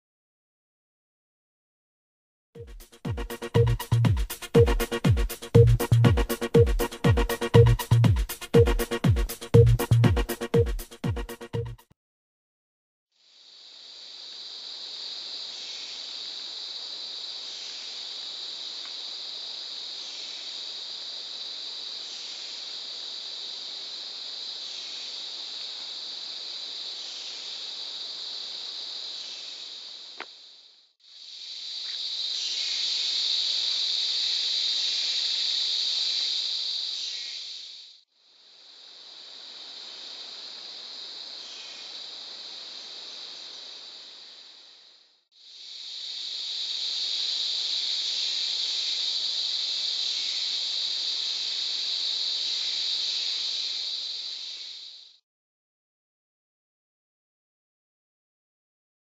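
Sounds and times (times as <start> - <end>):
insect chorus buzzing: 2.8 - 11.0, 13.2 - 55.2.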